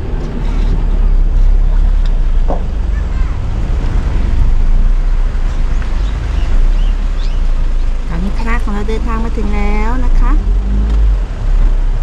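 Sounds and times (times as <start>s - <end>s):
loud low rumble: 0.0s - 12.0s.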